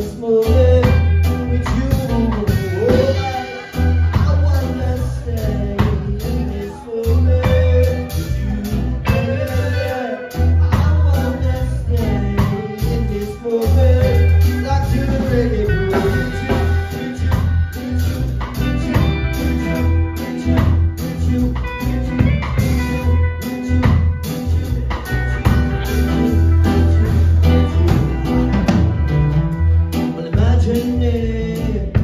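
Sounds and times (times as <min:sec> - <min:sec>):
lead vocal: 0:00.0 - 0:22.3, 0:23.0 - 0:32.0
deep pulsing bass line: 0:00.0 - 0:32.0
drum kit: 0:00.0 - 0:32.0
electric and acoustic guitars: 0:00.0 - 0:32.0.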